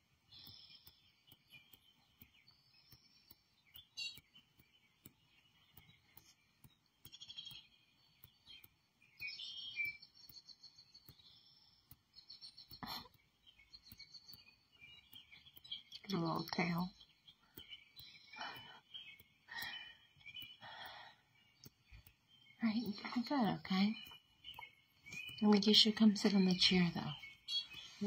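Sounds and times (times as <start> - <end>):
songbirds chirping through speakers: 0.0 - 28.0.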